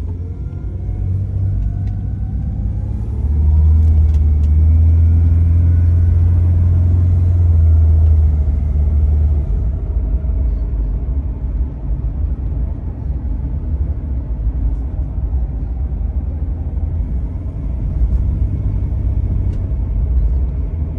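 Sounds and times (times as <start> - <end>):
car engine and road noise: 0.0 - 20.9.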